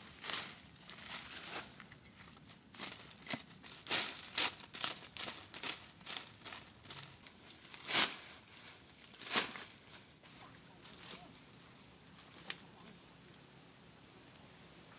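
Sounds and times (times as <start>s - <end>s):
rustling and crinkling: 0.0s - 13.0s.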